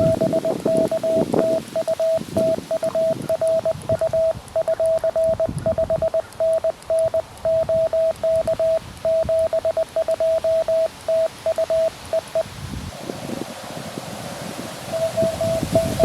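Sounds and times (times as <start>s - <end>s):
morse code tone: 0.0s - 12.5s, 14.9s - 16.0s.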